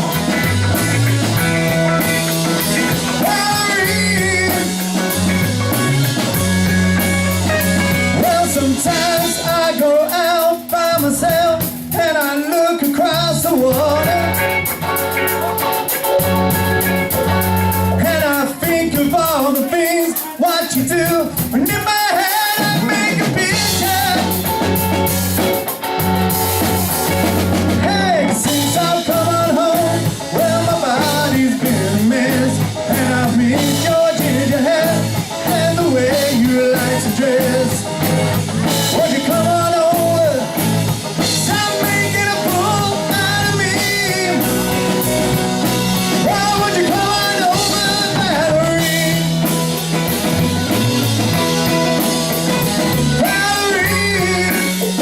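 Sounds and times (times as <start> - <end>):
bass: 0.0 - 55.0
drums: 0.0 - 55.0
electric guitar: 0.0 - 55.0
person singing: 1.9 - 5.2, 8.1 - 16.3, 17.1 - 24.9, 27.7 - 45.4, 46.0 - 49.6, 51.4 - 55.0.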